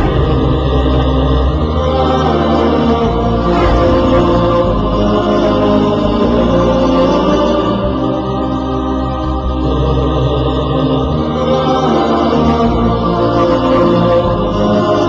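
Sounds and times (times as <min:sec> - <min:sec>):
layered vocal chanting: 0:00.0 - 0:15.0.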